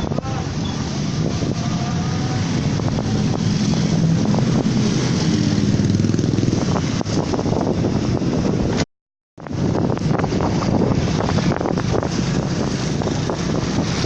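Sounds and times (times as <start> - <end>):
wind buffeting microphone: 0.0 - 8.8, 9.4 - 14.0.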